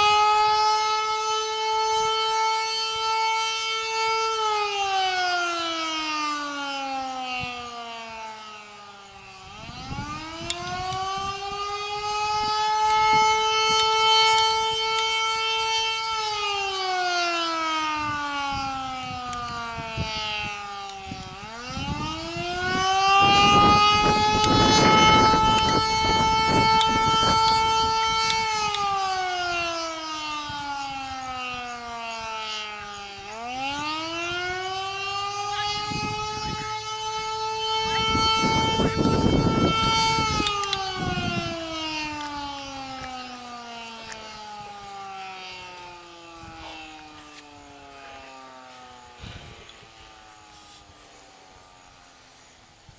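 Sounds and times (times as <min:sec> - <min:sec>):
warning siren winding: 0:00.0 - 0:52.9.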